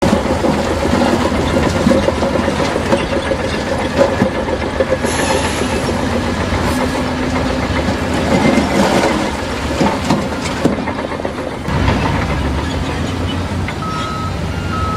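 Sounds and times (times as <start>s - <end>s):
bulldozer diesel engine: 0.0s - 14.9s
steel tracks clanking: 0.0s - 14.9s.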